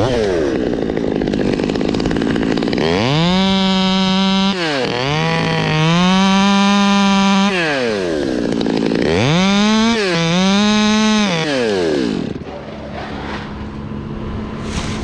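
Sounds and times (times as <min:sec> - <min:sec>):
chainsaw revving: 0:00.0 - 0:14.6.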